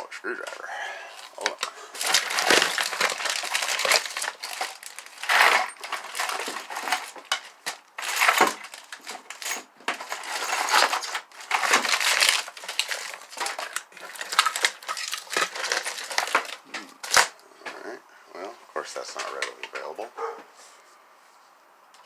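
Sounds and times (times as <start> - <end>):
rummaging through tools: 0.0 - 17.8, 18.8 - 20.4.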